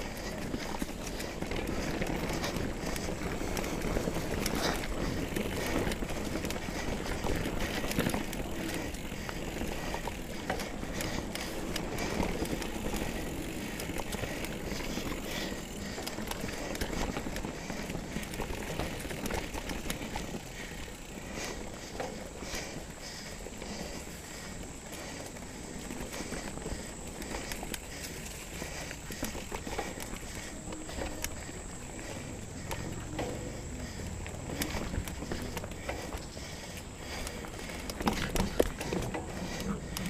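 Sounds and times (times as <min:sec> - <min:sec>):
bike clicks and rattles: 0:00.0 - 0:40.0
bike tyres rolling on dirt: 0:00.0 - 0:40.0.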